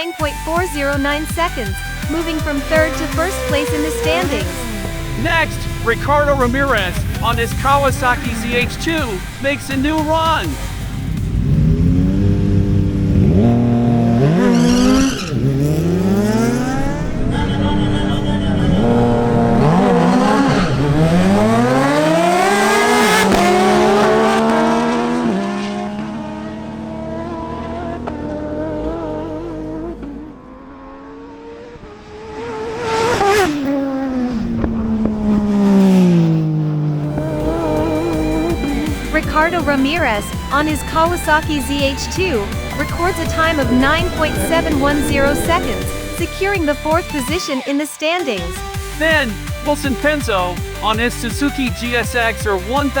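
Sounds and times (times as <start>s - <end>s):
motorcycle accelerating: 0.0s - 53.0s.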